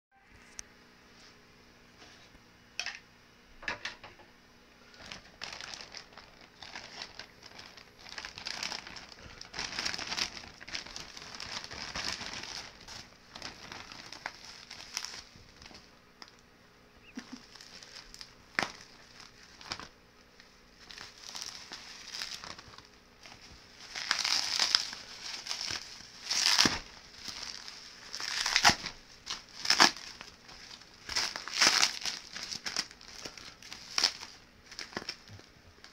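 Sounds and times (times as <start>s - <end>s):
plastic packaging crinkling: 4.9s - 16.4s, 17.1s - 20.0s, 20.7s - 35.9s.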